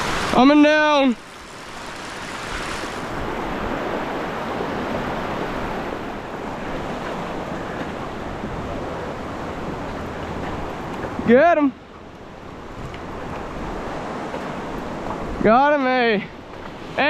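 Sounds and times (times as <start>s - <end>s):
river water running through rapids: 0.0s - 17.0s.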